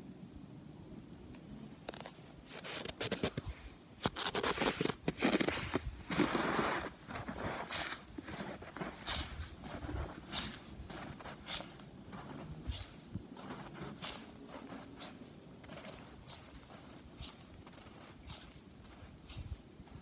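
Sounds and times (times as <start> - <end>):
rustling and scraping: 1.8 - 20.0.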